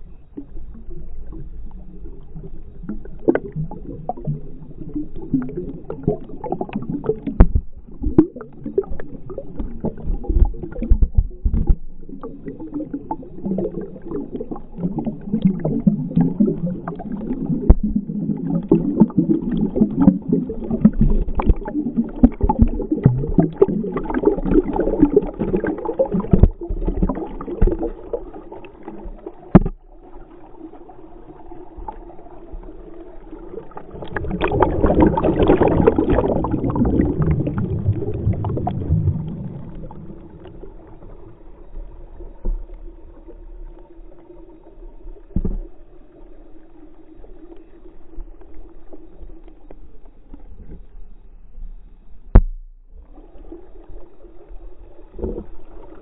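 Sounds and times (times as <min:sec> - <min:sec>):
faint steady hum: 0:00.0 - 0:56.0
underwater bubbling and gurgling: 0:00.0 - 0:56.0.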